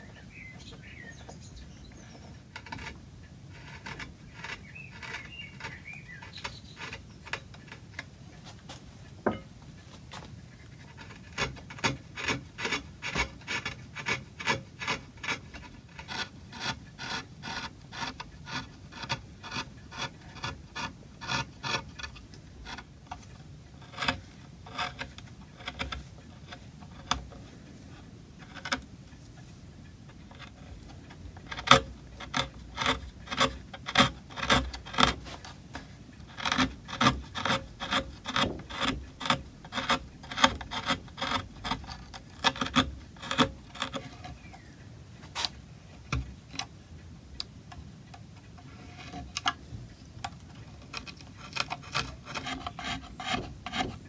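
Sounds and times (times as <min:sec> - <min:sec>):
chisel scraping wood: 0:00.6 - 0:46.7, 0:48.4 - 0:54.0.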